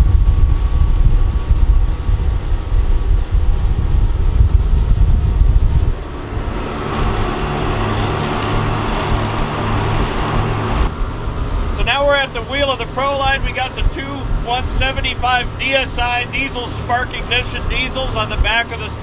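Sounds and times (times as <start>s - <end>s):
outboard engines rumbling: 0.0s - 19.0s
wind: 0.0s - 19.0s.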